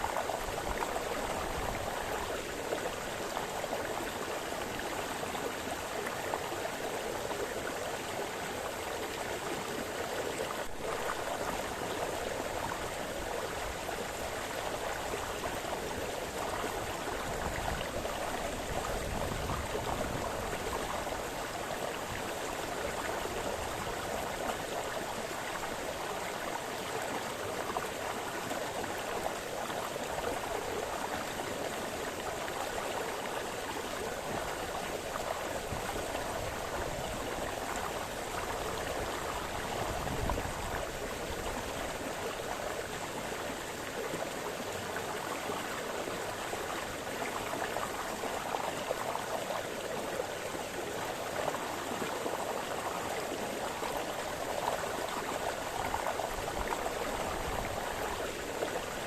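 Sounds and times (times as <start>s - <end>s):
brook babbling over stones: 0.0s - 59.0s.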